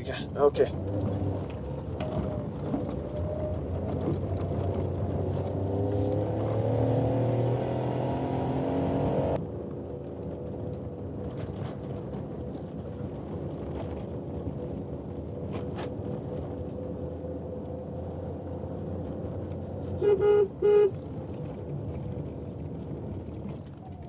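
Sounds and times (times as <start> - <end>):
small car engine pulling uphill: 0.4 - 24.0.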